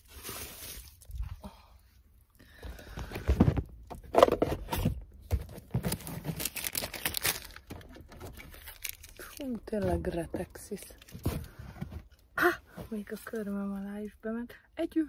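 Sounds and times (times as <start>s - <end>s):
rubbish crinkling and rustling: 0.0s - 1.3s, 2.6s - 14.1s.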